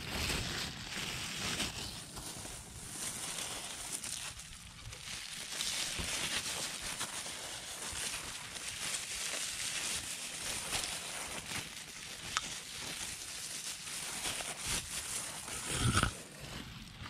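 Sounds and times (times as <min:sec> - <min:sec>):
dry leaves rustling and crackling: 0:00.0 - 0:15.6.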